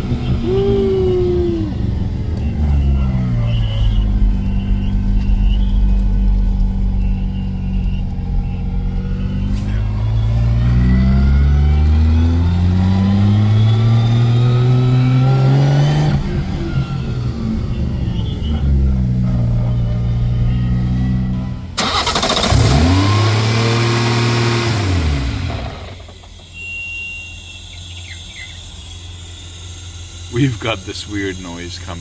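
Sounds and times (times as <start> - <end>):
car engine accelerating: 0.0 - 26.6
engine rev: 0.0 - 32.0.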